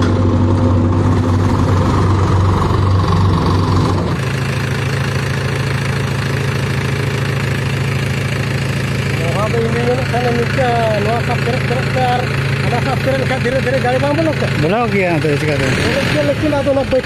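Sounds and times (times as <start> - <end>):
tractor engine idling: 0.0 - 17.0
tractor engine running: 0.0 - 17.0.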